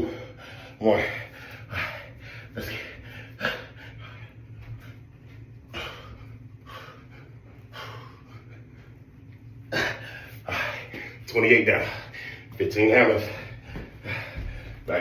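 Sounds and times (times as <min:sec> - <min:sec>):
man breathing hard: 0:00.0 - 0:09.1, 0:09.7 - 0:11.2, 0:13.2 - 0:15.0
steady low hum: 0:00.0 - 0:15.0.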